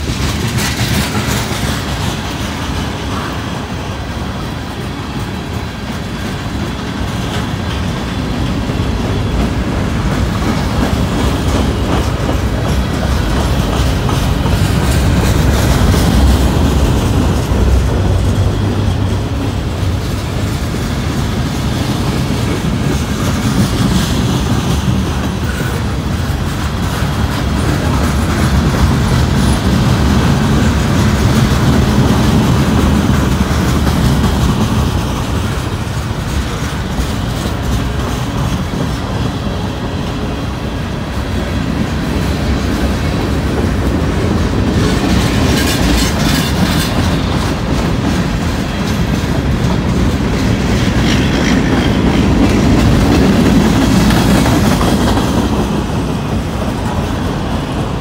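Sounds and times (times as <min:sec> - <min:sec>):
clickety-clack of wheels on joints: 0:00.0 - 0:58.0
rumble of train wheels on rail: 0:00.0 - 0:58.0.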